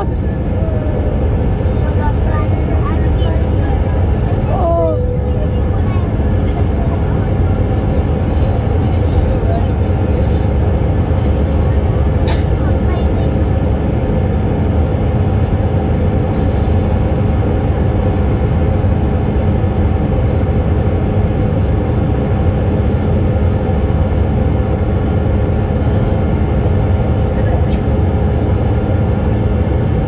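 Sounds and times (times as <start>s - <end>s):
jet engines rumbling in cabin: 0.0s - 30.0s
steady hums: 0.0s - 30.0s.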